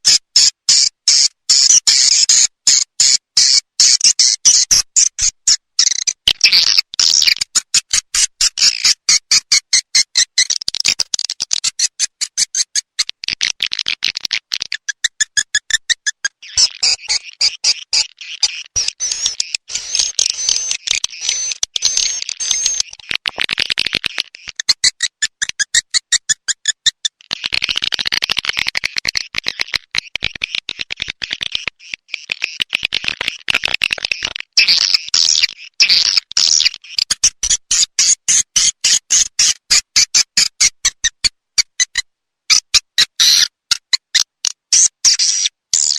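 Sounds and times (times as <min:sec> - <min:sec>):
bird chirps and clicks: 0:00.0 - 0:45.9.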